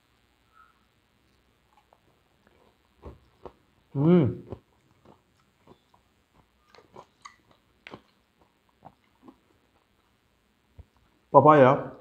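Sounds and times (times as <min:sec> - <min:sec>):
chewing fruit: 0:01.2 - 0:11.3.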